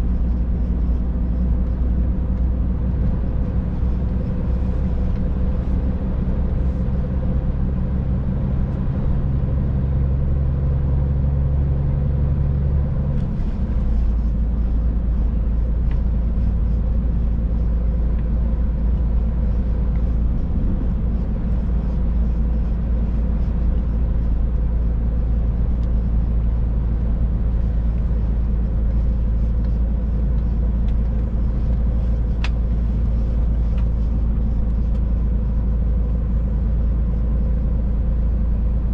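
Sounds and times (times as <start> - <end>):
road noise: 0.0 - 38.9
truck diesel engine drone: 0.0 - 38.9.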